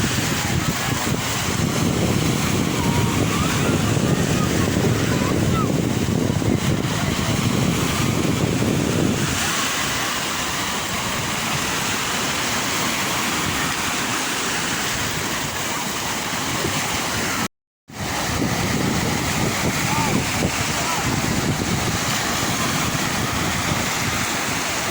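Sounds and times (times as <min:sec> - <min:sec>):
sea waves washing: 0:00.0 - 0:24.9
wind rumble on microphone: 0:00.0 - 0:24.9.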